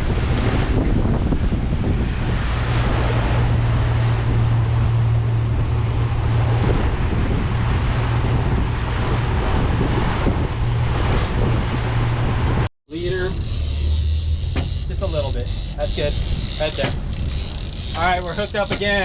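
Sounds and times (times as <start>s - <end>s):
outboard motor humming: 0.0s - 19.0s
water rushing past hull: 0.0s - 19.0s
wind on microphone: 0.0s - 19.0s.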